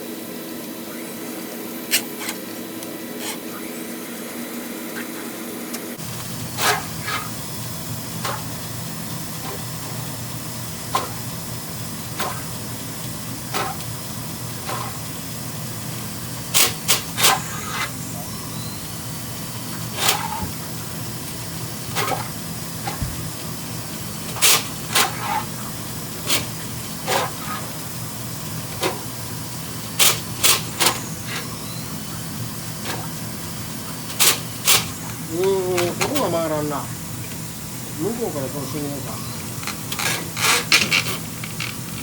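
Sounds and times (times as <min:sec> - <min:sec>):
drain cleaner motor hum: 0:00.0 - 0:42.0.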